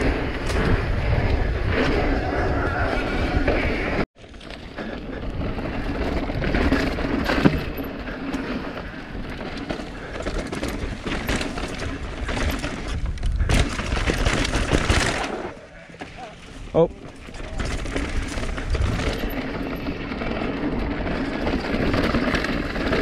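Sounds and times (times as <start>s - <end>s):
bike rattling and clattering: 0.0s - 23.0s
bike tyres on dirt: 0.0s - 23.0s.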